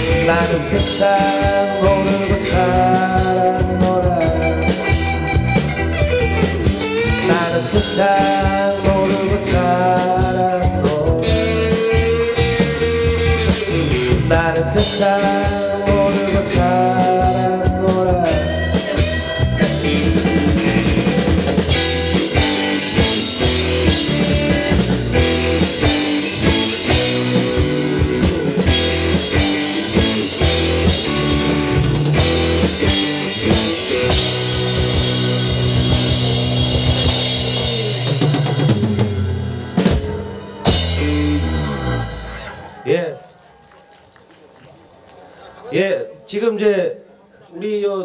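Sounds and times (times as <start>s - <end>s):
rock band playing: 0.0s - 45.1s.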